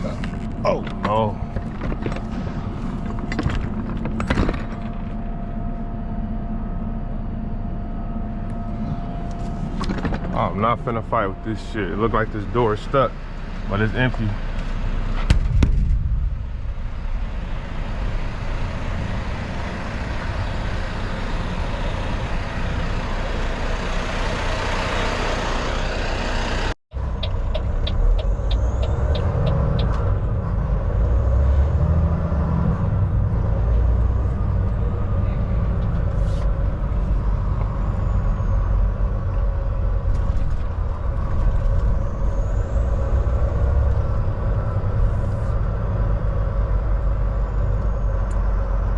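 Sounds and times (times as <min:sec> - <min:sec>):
truck diesel engine rumbling: 0:00.0 - 0:48.9.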